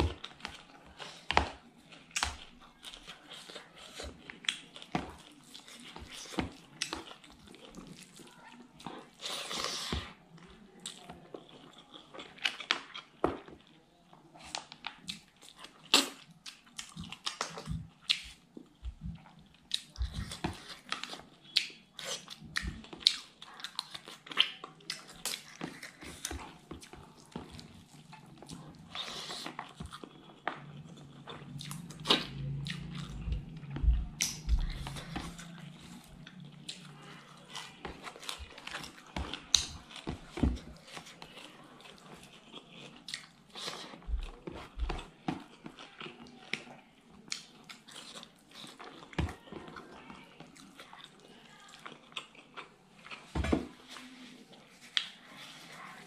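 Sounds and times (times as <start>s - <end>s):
wet chewing with mouth smacks: 0.1s - 56.0s.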